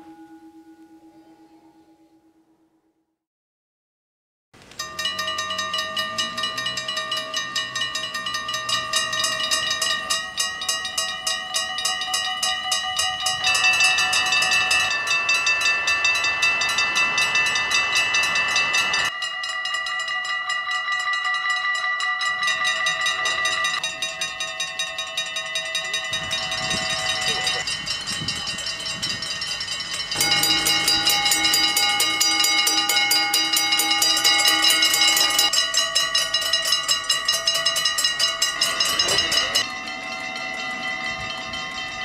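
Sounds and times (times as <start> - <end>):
level crossing bells ringing: 4.8 - 42.0.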